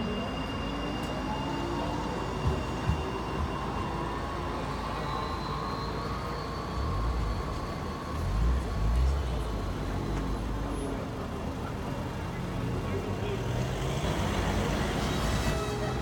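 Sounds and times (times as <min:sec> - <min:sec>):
tram rolling: 0:00.0 - 0:16.0.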